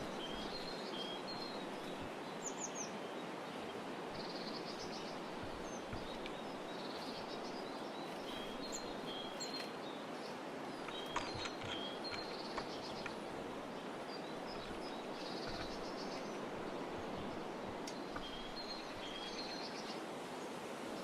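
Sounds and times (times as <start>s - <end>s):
outdoor background hiss: 0.0s - 21.0s
songbirds chirping: 0.0s - 21.0s.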